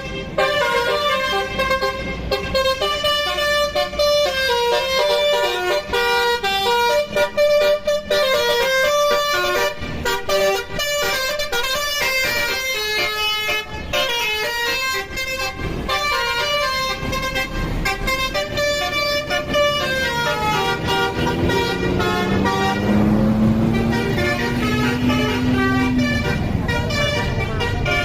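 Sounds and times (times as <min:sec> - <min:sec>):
bus horn playing melody: 0:00.0 - 0:28.0
engine rumble: 0:00.0 - 0:28.0.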